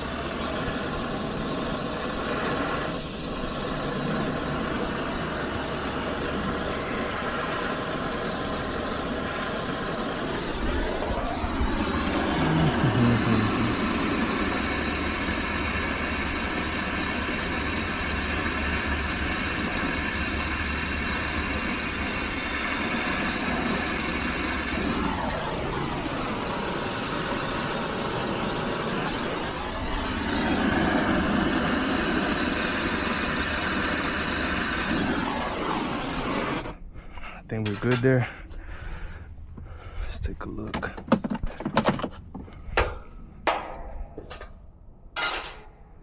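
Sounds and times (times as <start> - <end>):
torch flame hissing roar: 0.0 - 36.9.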